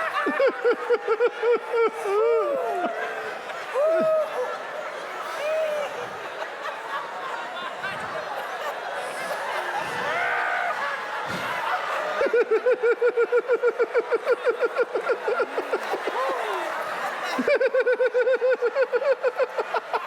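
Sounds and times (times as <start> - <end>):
people laughing: 0.0 - 20.0.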